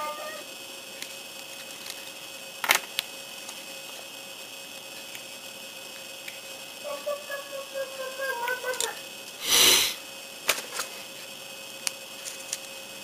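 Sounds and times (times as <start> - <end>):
faint hiss and hum: 0.0 - 13.0.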